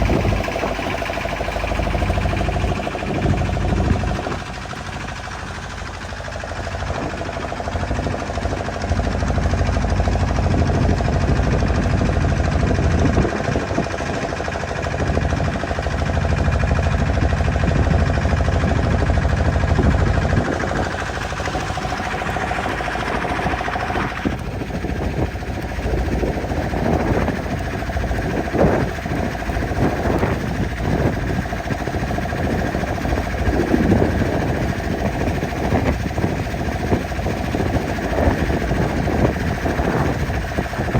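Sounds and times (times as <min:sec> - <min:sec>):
boat engine rumbling: 0:00.0 - 0:40.9.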